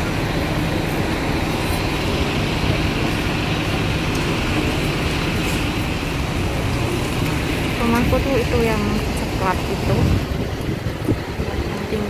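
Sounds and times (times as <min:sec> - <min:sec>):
bus diesel engines idling: 0:00.0 - 0:12.0
passing road traffic: 0:00.0 - 0:12.0.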